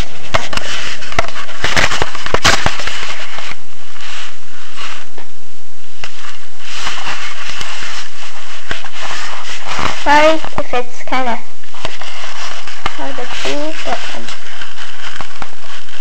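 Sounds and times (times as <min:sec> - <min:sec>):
microphone rubbing on fabric: 0:00.0 - 0:16.0.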